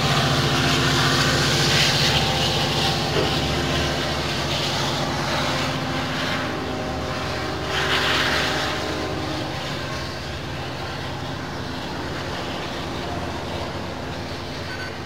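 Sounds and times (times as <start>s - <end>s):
train engine hum and rail noise: 0.0s - 15.0s.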